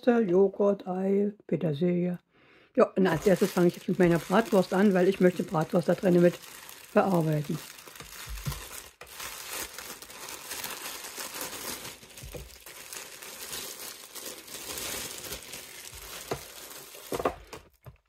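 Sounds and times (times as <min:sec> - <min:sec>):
plastic bag crinkling: 0:03.1 - 0:18.0.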